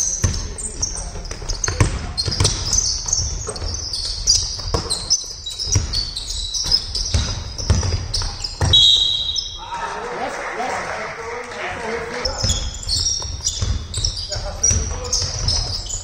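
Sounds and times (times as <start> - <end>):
sneakers squeaking on floor: 0.0 - 10.0, 11.6 - 16.0
basketball bouncing on wooden floor: 0.2 - 9.4, 12.2 - 16.0.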